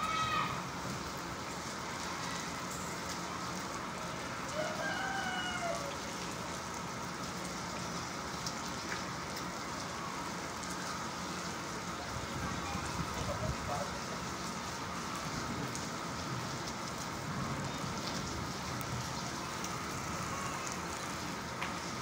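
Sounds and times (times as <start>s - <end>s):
rain on wet concrete: 0.0s - 22.0s.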